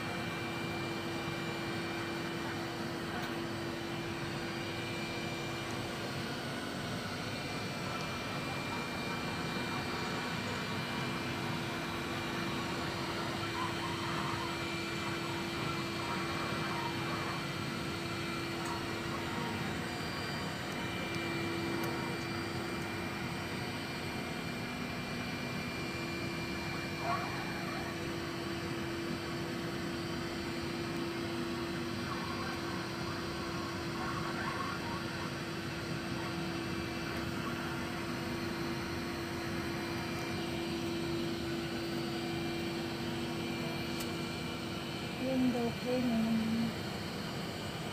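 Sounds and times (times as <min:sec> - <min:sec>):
suction fan whirring: 0:00.0 - 0:34.3, 0:35.1 - 0:47.9.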